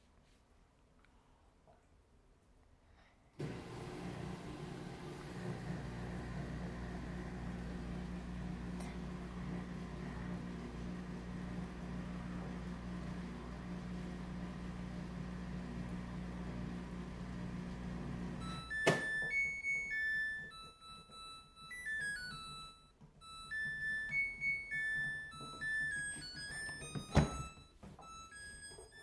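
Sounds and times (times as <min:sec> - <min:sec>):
washing machine humming: 0:03.4 - 0:29.0.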